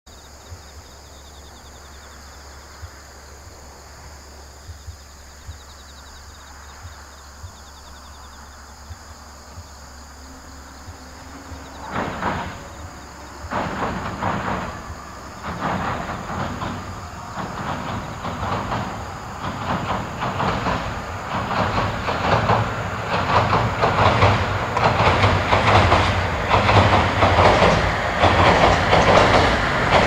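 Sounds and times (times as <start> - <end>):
insects trilling: 0.1 - 30.0
train wheels clattering on bridge: 0.1 - 30.0.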